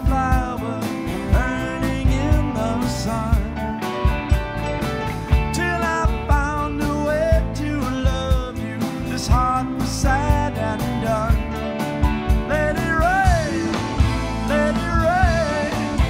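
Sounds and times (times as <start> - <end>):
blues-rock band playing: 0.0 - 16.0
steady drum beat: 0.0 - 16.0.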